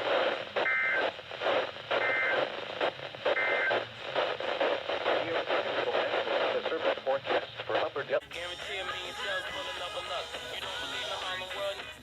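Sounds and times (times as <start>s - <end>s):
radio static hiss and crackle: 0.0s - 12.0s.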